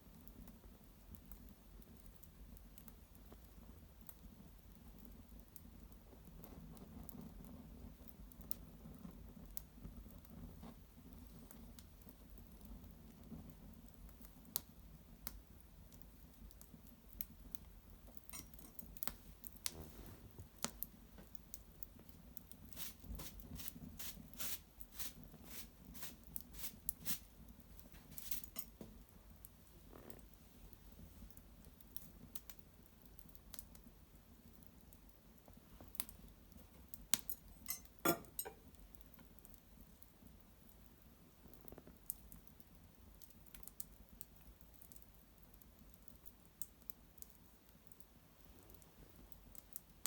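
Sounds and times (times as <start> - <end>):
fire crackling with pops: 0.0 - 50.0.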